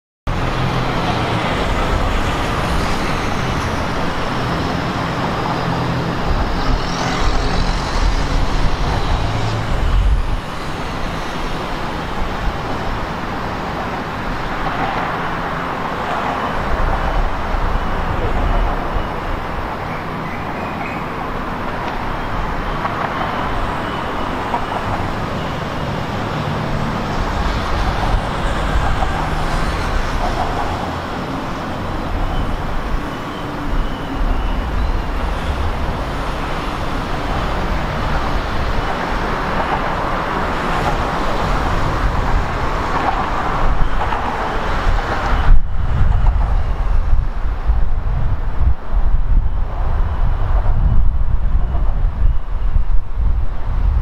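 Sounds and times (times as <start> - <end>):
road traffic rumble: 0.3 - 54.0.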